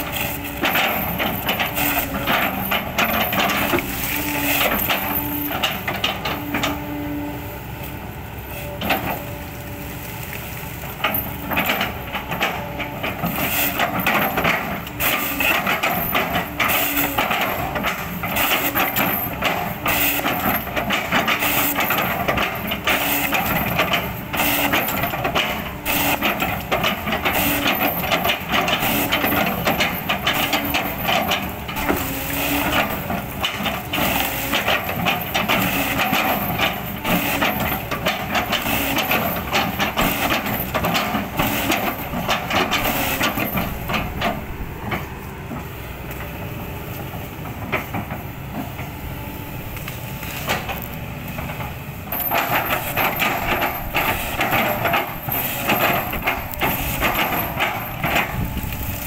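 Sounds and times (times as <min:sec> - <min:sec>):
excavator engine drone: 0:00.0 - 0:59.0.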